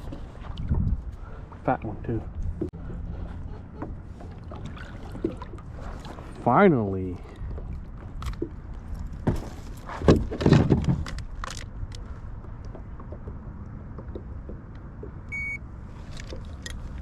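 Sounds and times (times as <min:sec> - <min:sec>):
knocks and rustling in kayak: 0:00.0 - 0:06.5, 0:07.2 - 0:15.3.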